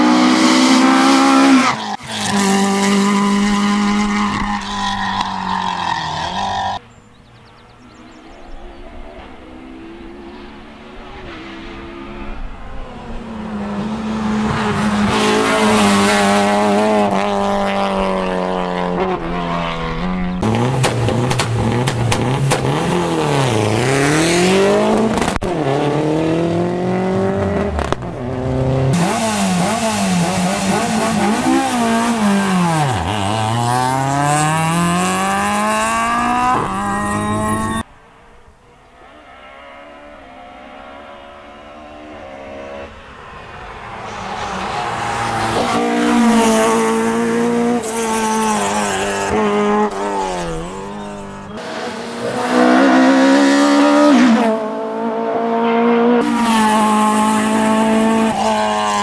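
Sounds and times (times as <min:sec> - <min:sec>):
rally car engines at full throttle: 0:00.0 - 0:59.0.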